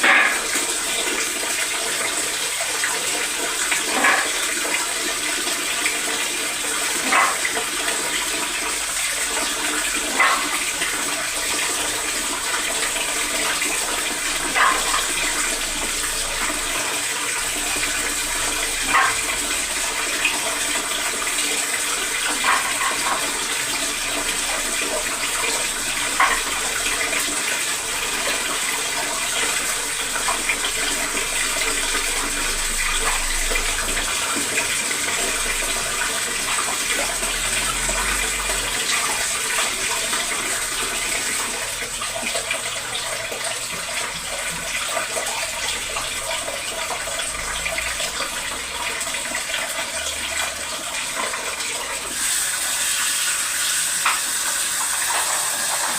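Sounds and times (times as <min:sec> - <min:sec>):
water running from tap into sink: 0:00.0 - 0:55.9.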